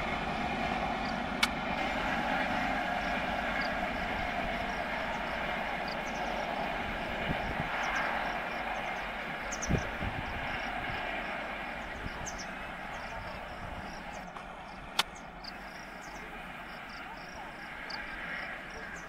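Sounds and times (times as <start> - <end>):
train coaches rumbling on rails: 0.0 - 19.0
insects chirping: 2.6 - 19.0.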